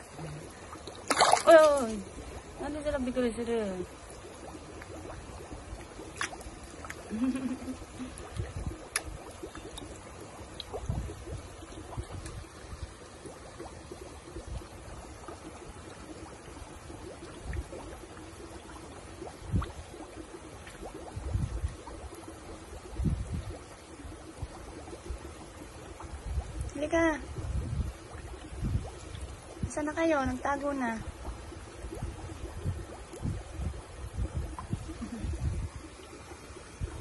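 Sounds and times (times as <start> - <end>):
faint steady hum: 0.0 - 37.0
water trickling in a tub: 0.0 - 37.0.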